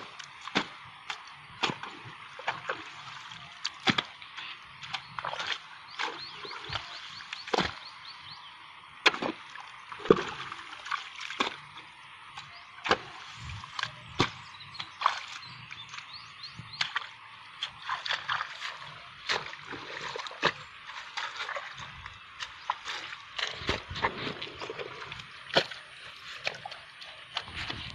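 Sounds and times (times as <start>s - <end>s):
sharp mud splats: 0.0s - 8.2s, 9.0s - 27.9s
splashing in muddy water: 0.0s - 27.9s.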